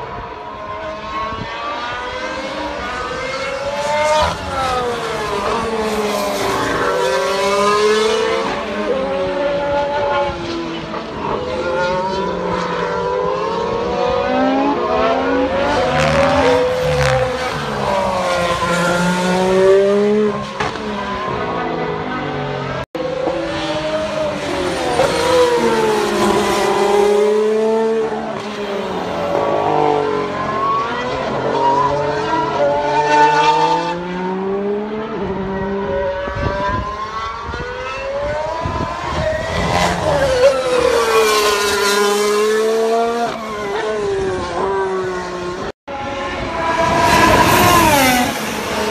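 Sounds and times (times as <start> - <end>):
racing car engines: 0.0 - 48.9.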